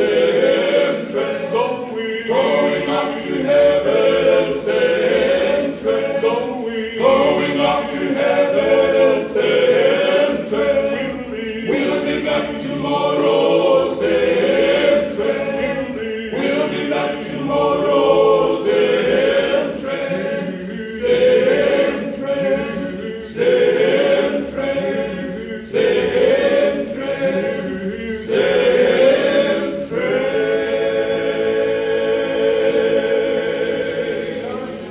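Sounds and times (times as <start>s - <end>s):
male quartet singing in harmony: 0.0s - 34.9s.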